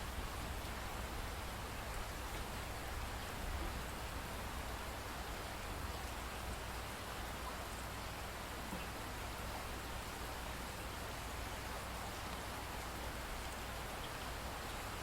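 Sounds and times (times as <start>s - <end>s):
steady rainfall hiss: 0.0s - 15.0s.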